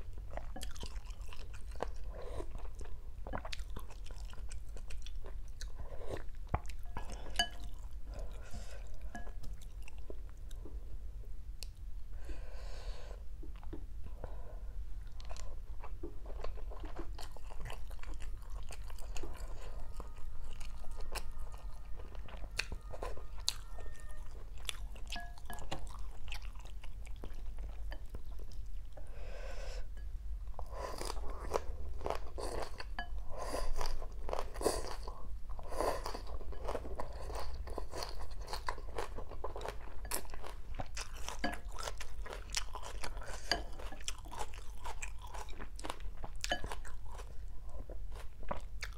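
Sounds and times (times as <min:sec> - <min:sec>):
person chewing and crunching food: 0:00.0 - 0:10.8, 0:15.0 - 0:29.1, 0:30.5 - 0:48.9.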